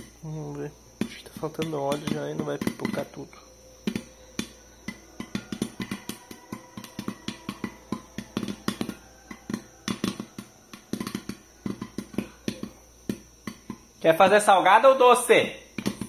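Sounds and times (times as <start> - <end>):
popcorn popping in a pot: 0.0 - 16.0.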